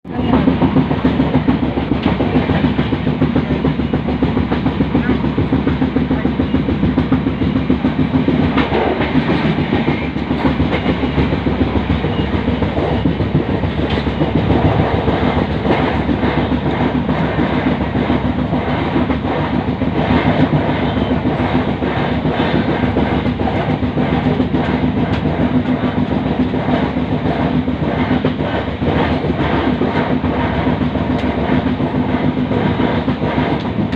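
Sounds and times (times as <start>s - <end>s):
train rumbling: 0.0s - 33.9s.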